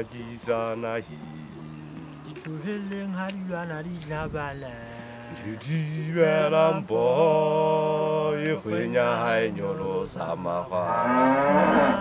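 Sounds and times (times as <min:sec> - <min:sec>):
men singing chant-like song: 0:00.0 - 0:12.0.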